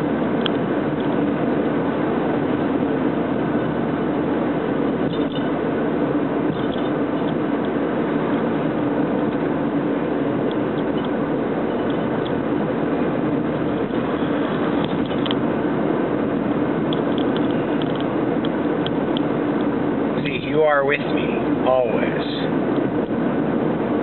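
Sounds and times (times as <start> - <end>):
car engine and tyre noise: 0.0 - 24.0.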